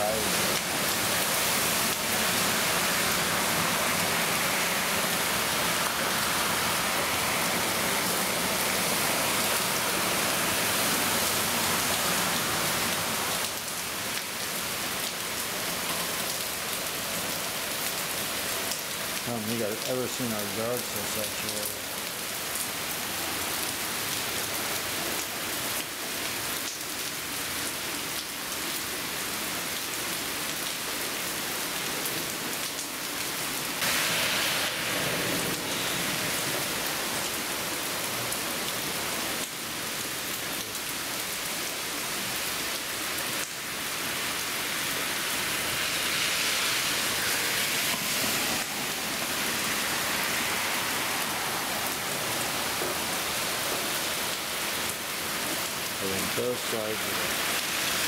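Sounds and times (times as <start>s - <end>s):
car tyres on wet road: 0.0s - 58.0s
heavy rain pouring: 0.0s - 58.0s.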